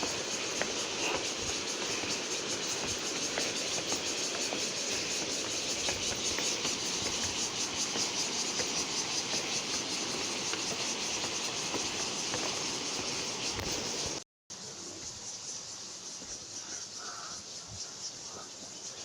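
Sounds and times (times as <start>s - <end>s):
pulsing insect drone: 0.0s - 19.0s.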